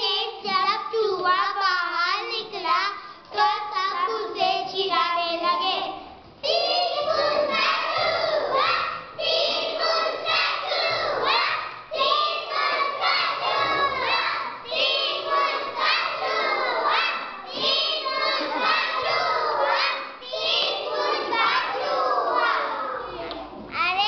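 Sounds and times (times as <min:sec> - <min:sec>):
children shouting and cheering: 0:03.4 - 0:24.0.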